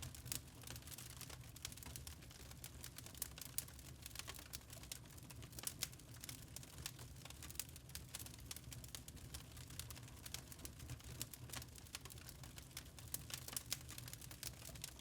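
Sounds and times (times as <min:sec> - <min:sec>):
small fire pops and snaps: 0:00.0 - 0:15.0.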